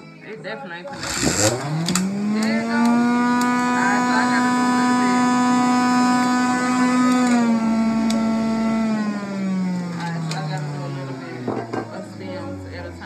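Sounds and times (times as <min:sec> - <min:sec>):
juicer motor whining: 0:00.9 - 0:13.0.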